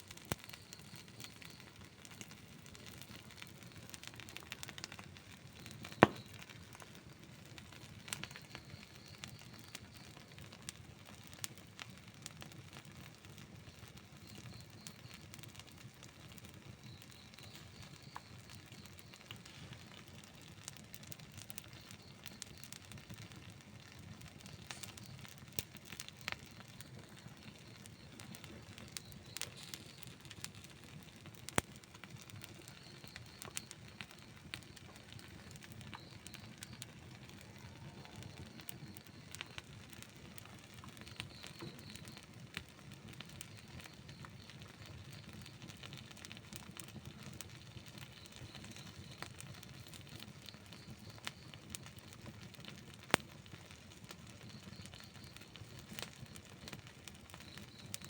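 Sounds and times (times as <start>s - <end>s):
campfire flame rushing: 0.0s - 10.0s, 14.3s - 58.0s
campfire crackles and pops: 0.0s - 58.0s.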